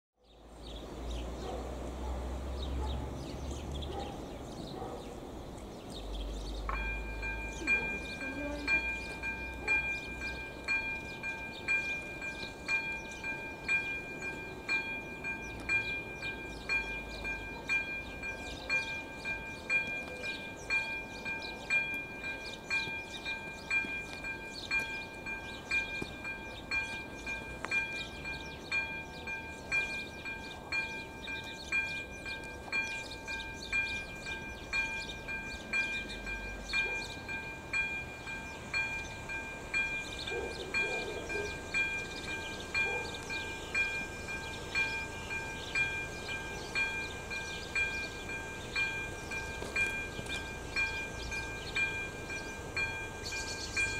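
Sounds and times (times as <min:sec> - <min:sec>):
level crossing bell ringing: 0:06.7 - 0:53.9.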